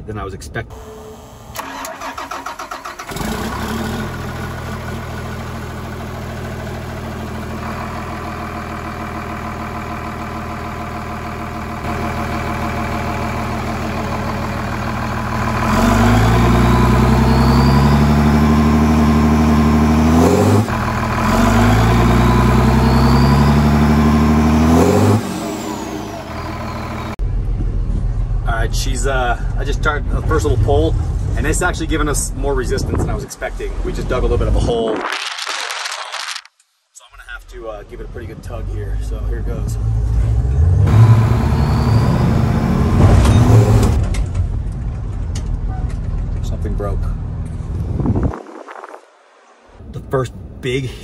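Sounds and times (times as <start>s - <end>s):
bus diesel engine idling and revving: 0.7s - 32.1s, 38.0s - 49.9s.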